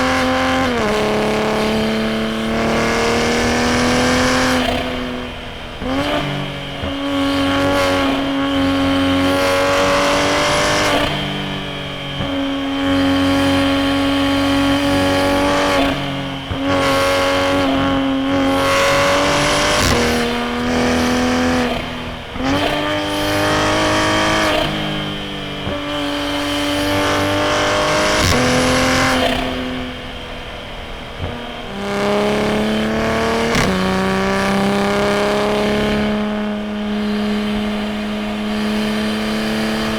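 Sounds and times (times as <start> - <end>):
car engine revving hard: 0.0 - 39.9.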